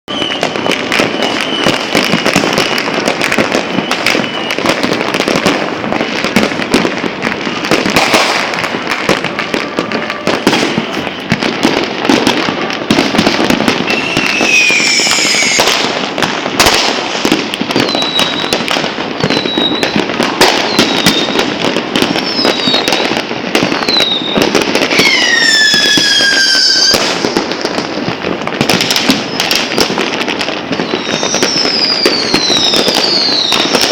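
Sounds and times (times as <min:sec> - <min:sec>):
whistling fireworks: 0:00.0 - 0:33.9
fireworks bangs and crackling: 0:00.1 - 0:33.9.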